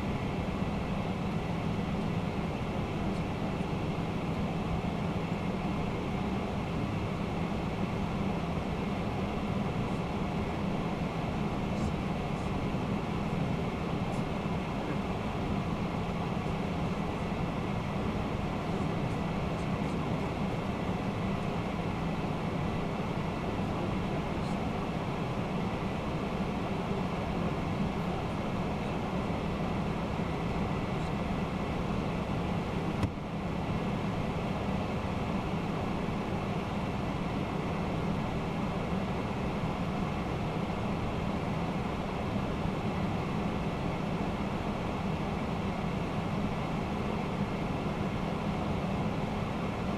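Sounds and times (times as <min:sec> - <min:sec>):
aircraft cockpit air rush and engine hum: 0:00.0 - 0:49.9.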